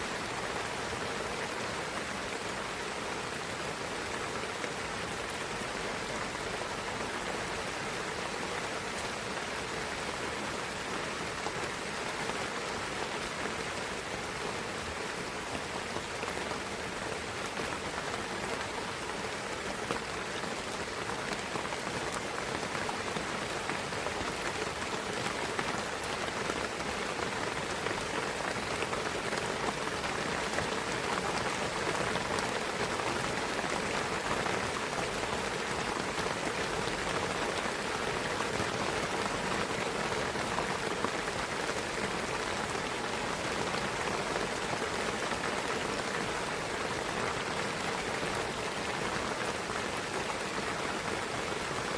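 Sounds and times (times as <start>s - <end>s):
rain pattering on leaves: 0.0s - 51.9s.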